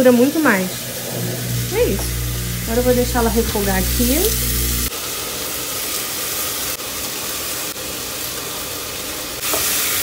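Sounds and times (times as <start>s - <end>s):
meat sizzling in hot fat: 0.2s - 10.0s.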